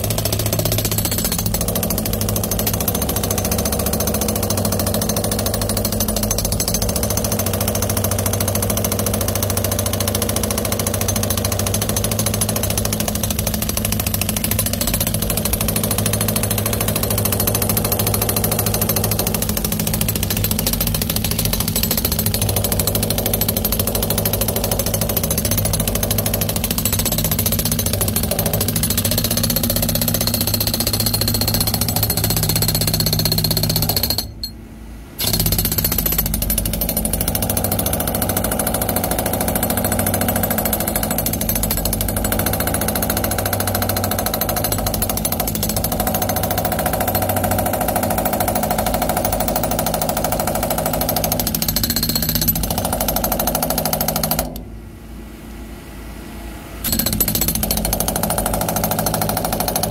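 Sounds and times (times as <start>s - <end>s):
jackhammer chipping concrete: 0.0s - 34.5s, 35.2s - 54.6s, 56.8s - 59.9s.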